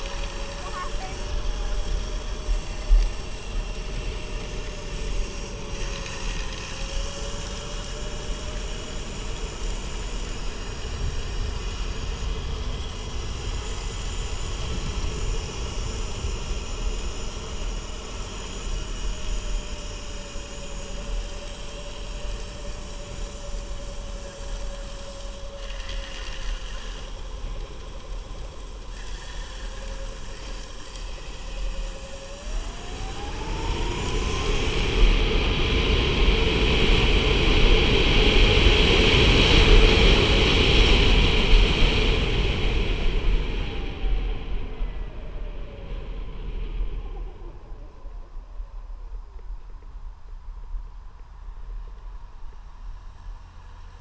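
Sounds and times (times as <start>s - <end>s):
electric motor whine: 0.0s - 49.9s
wind rumble on microphone: 0.0s - 54.0s.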